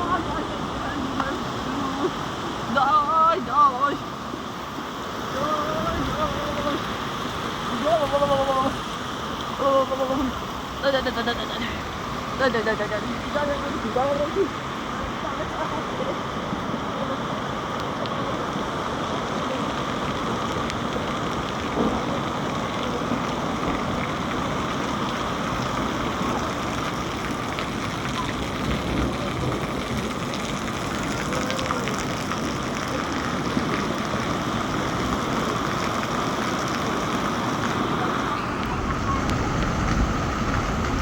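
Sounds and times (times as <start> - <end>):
rain pattering: 0.0 - 41.0.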